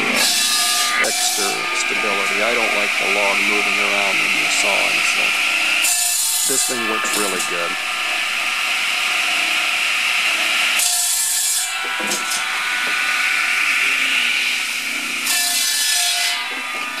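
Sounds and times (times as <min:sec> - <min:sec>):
saw cutting log hiss: 0:00.0 - 0:16.4
saw blade spinning whine: 0:00.0 - 0:17.0.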